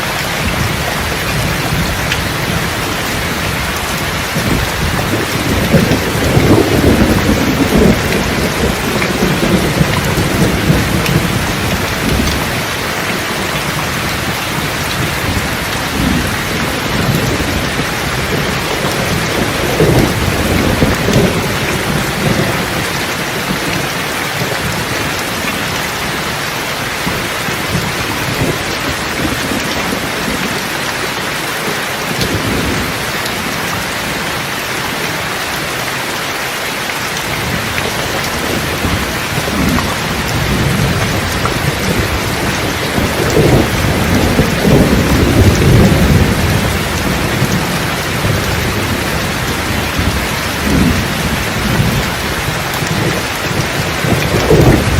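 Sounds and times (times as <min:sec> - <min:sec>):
thunder rumbling: 0:00.0 - 0:34.5, 0:37.2 - 0:54.9
heavy rain hissing: 0:00.0 - 0:54.9.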